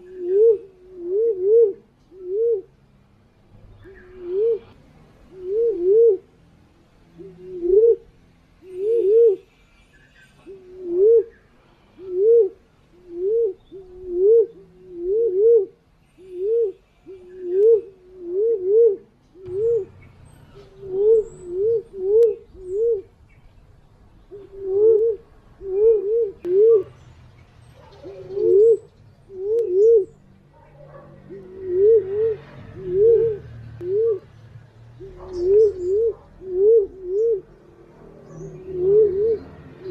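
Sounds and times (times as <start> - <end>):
pigeon cooing: 0.0 - 2.8, 3.8 - 6.3, 7.2 - 9.5, 10.4 - 23.2, 24.3 - 27.0, 27.7 - 34.3, 35.0 - 39.9.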